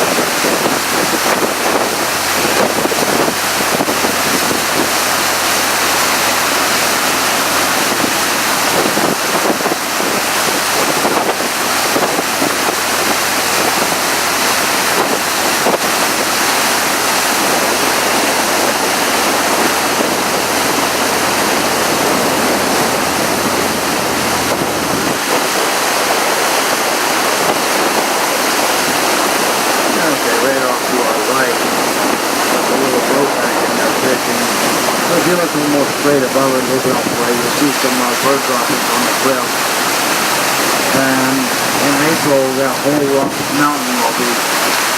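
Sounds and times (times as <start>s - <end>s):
water rushing along boat hull: 0.0s - 44.9s
wind buffeting microphone: 0.0s - 44.9s.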